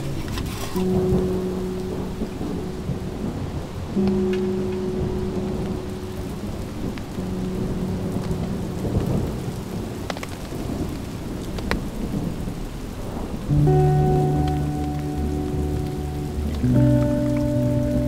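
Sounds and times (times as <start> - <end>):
low rolling thunder: 0.0 - 18.0
steady rain: 0.0 - 18.0.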